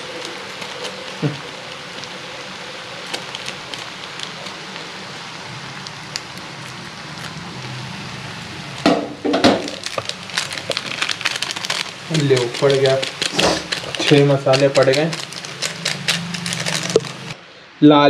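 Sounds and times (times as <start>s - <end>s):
frying in hot oil sizzling: 0.0s - 17.4s.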